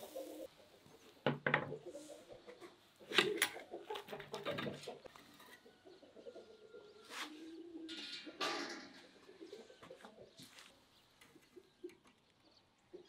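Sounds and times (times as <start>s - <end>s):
bird cooing: 0.0s - 10.6s.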